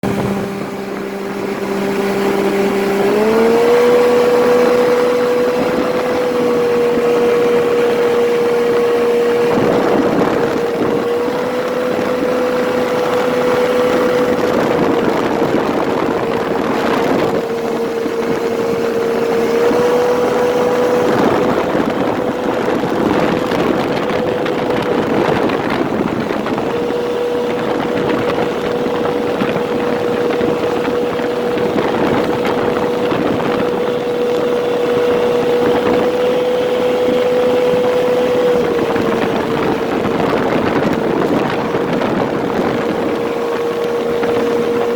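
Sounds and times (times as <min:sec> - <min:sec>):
outboard boat motor revving: 0:00.0 - 0:44.9
steady rushing noise: 0:00.0 - 0:44.9.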